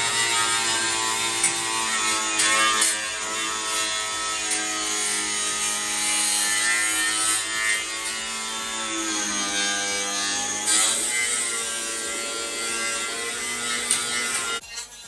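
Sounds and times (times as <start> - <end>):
abrasive disc grinding steel: 0.0 - 14.6.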